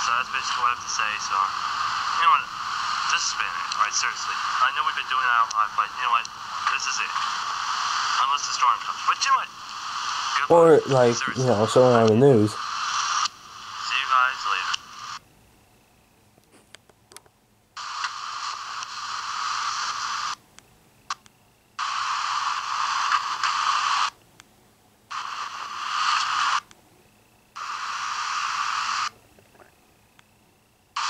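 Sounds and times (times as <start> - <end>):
radio static hiss: 0.0 - 16.8, 17.8 - 20.4, 21.0 - 24.2, 25.1 - 31.0.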